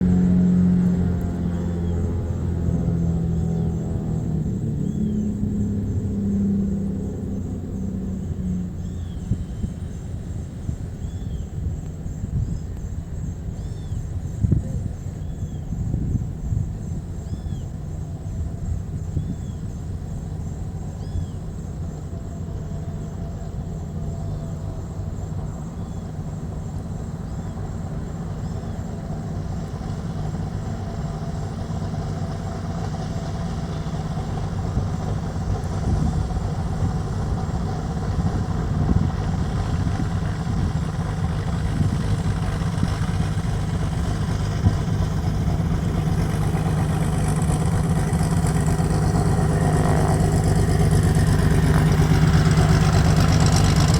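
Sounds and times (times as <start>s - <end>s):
aircraft engines droning: 0.0s - 53.9s.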